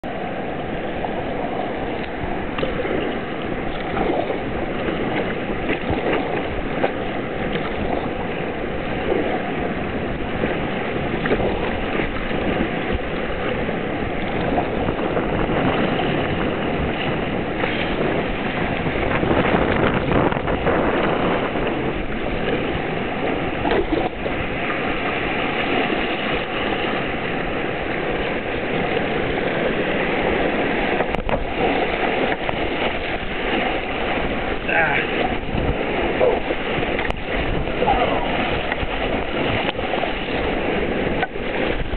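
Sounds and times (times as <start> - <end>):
whitewater rushing and splashing: 0.0 - 41.9.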